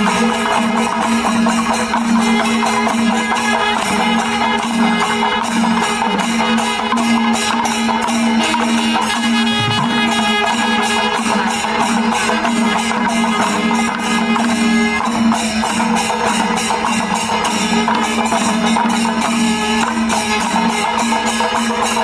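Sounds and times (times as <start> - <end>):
even percussion beat: 0.0 - 22.0.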